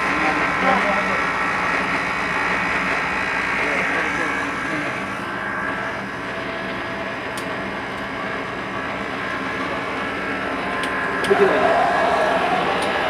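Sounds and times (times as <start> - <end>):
machine motor humming: 0.0 - 13.0.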